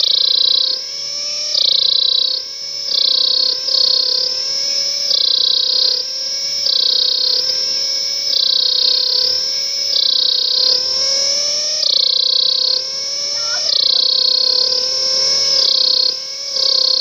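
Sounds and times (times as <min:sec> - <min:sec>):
cicada shrill buzz: 0:00.0 - 0:17.0.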